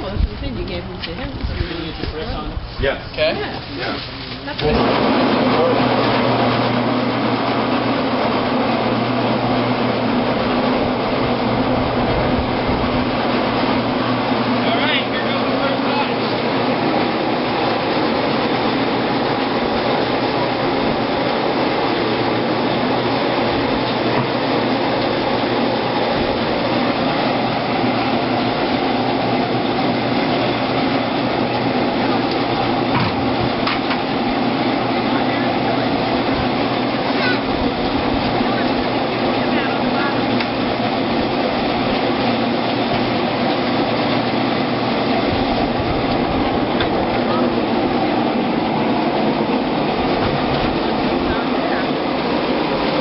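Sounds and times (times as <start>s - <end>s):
grape crusher running: 0.0s - 53.0s
machine humming and rattling: 0.0s - 53.0s.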